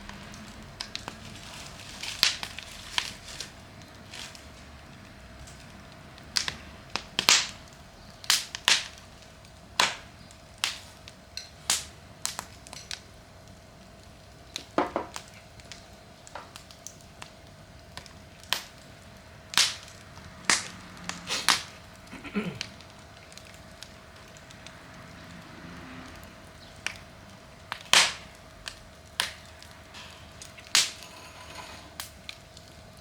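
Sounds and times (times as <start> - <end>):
campfire crackling and popping: 0.0 - 33.0
low steady hiss: 0.0 - 33.0.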